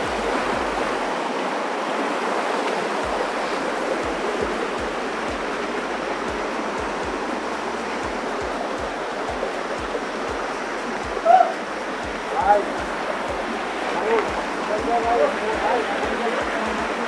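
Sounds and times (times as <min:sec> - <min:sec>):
stream rushing over boulders: 0:00.0 - 0:17.0.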